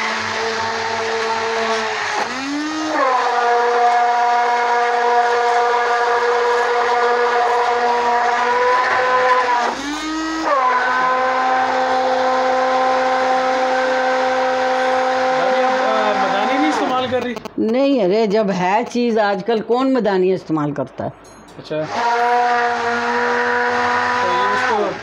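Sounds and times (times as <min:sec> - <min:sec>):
hand blender motor whine: 0:00.0 - 0:17.0, 0:21.8 - 0:25.0.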